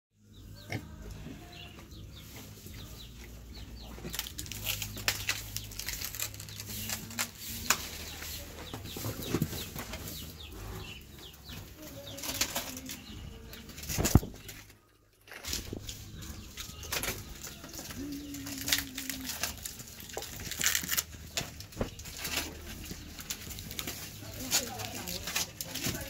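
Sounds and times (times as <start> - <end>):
pigs chewing feed: 0.6 - 26.0.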